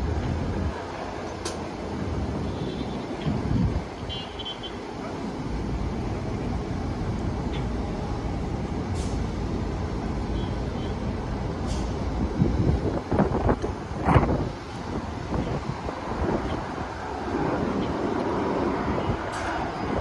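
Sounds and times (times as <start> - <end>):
heavy vehicles rumbling past: 0.0 - 20.0.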